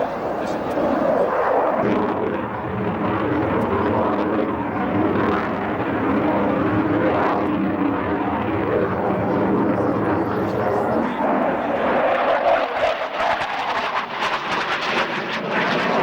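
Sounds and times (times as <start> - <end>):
aircraft engine drone: 0.0 - 16.0.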